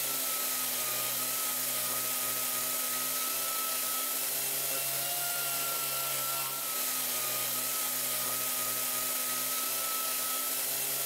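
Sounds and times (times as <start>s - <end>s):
power sander motor whine: 0.0s - 11.0s.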